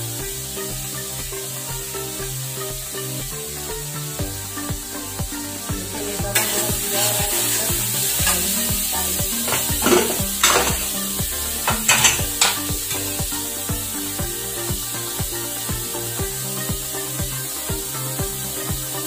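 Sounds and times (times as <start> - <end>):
background music with a beat: 0.0 - 19.0
paste sizzling in a pan: 0.2 - 19.0.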